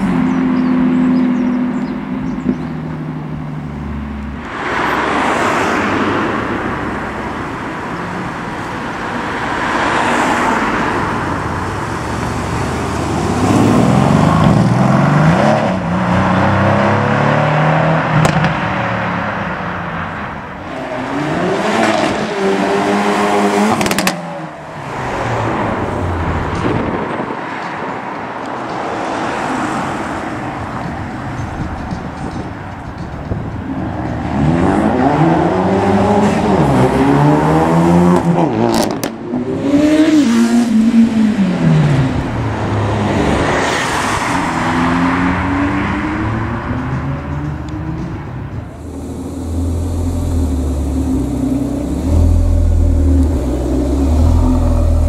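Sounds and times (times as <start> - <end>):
car engines revving hard: 0.0 - 28.6, 33.3 - 55.0.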